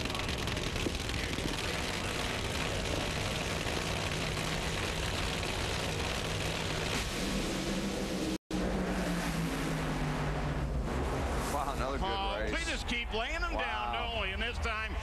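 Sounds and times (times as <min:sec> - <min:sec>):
drag racing engines at full throttle: 0:00.0 - 0:15.0.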